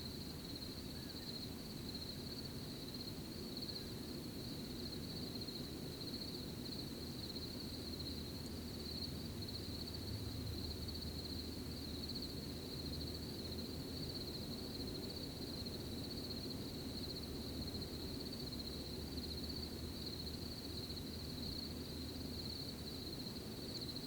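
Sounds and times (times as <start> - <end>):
crickets chirping: 0.0 - 24.0
low steady background noise: 0.0 - 24.0.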